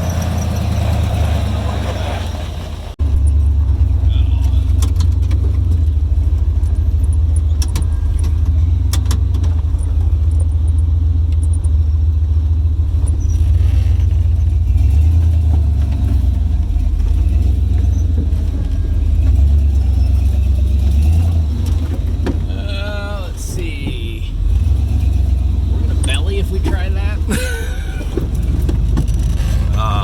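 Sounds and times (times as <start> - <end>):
jeep engine rumbling: 0.0 - 30.0
sharp clicks and rattles: 3.0 - 30.0.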